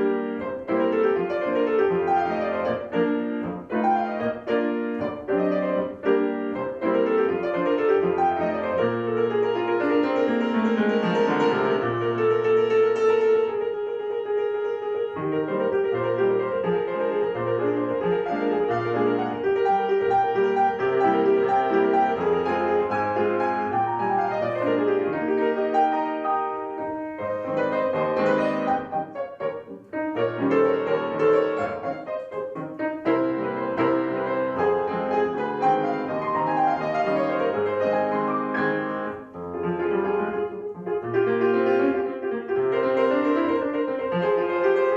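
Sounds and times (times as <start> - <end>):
solo piano piece: 0.0 - 44.9.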